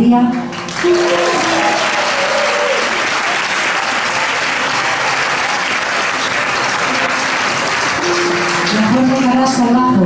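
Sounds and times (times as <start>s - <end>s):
audience clapping: 0.2s - 9.8s.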